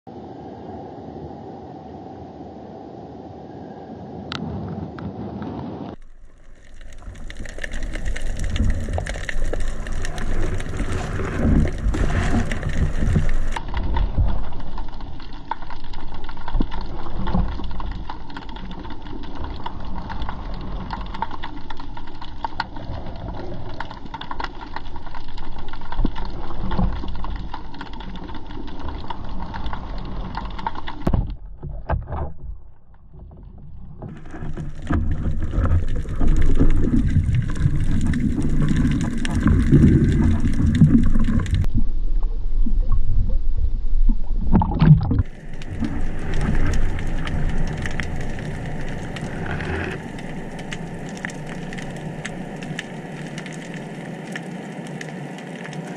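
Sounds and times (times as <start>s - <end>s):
underwater rush of moving water: 4.4s - 32.5s, 33.1s - 55.9s
crackling and knocking: 5.9s - 22.8s, 23.7s - 41.7s, 44.5s - 55.8s.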